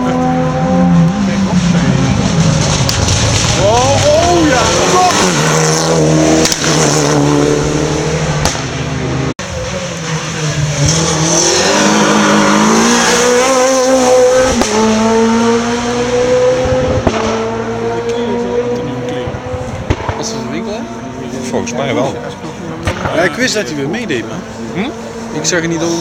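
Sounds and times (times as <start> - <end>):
rally car engines at full throttle: 0.0 - 26.0.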